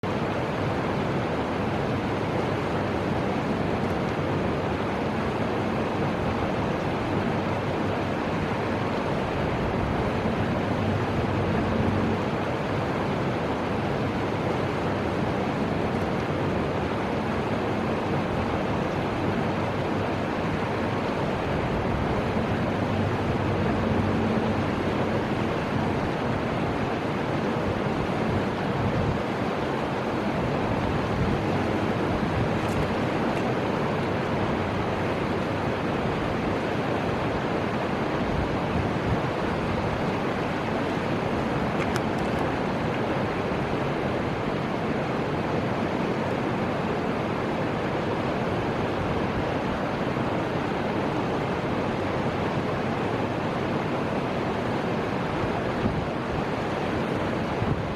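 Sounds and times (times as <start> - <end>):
river water rushing: 0.0 - 57.9.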